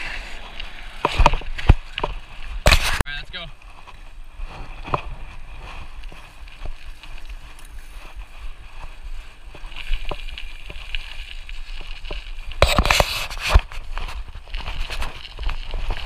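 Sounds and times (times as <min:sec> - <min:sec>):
small wheels on rough pavement: 0:00.0 - 0:16.0.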